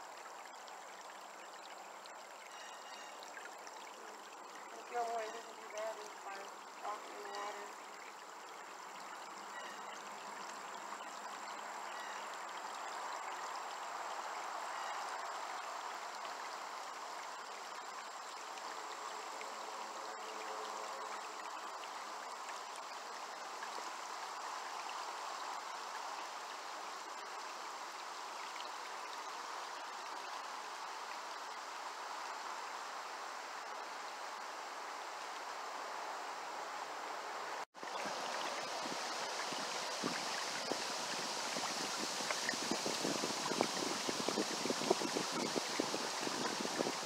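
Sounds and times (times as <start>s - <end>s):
creek water flowing over stones: 0.0s - 36.9s, 37.5s - 47.0s.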